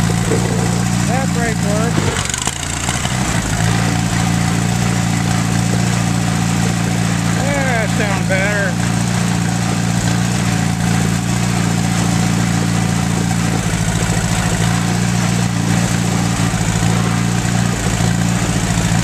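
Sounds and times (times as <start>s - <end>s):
tractor engine running unevenly: 0.0s - 19.0s.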